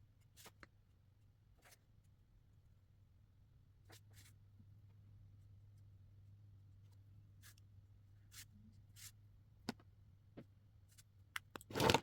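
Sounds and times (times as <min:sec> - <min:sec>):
faint low hum: 0:00.0 - 0:11.4.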